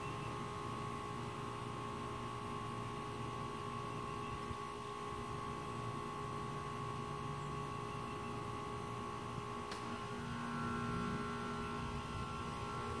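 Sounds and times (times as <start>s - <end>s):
steady hum of held tones: 0.0s - 13.0s.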